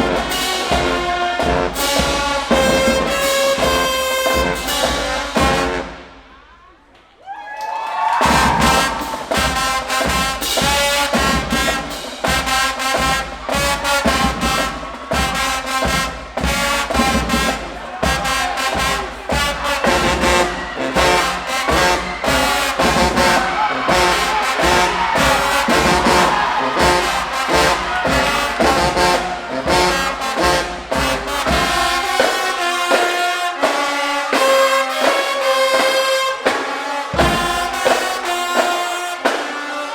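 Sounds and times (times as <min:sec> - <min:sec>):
marching band playing: 0:00.0 - 0:06.4, 0:08.2 - 0:39.9.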